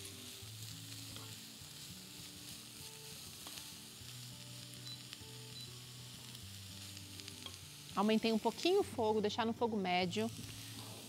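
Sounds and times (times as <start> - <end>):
vegetables sizzling in a saucepan: 0.0 - 11.0.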